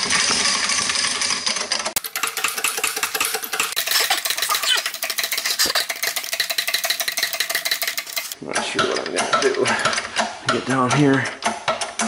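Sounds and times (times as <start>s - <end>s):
hydraulic press pump clattering: 0.0s - 12.0s.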